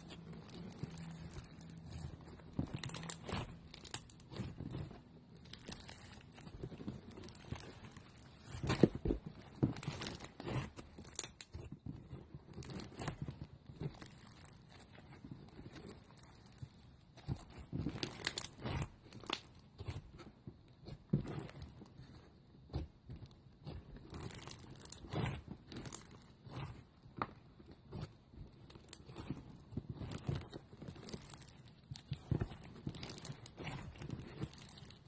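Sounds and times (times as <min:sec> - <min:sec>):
slime crackling and popping: 0:00.0 - 0:35.0.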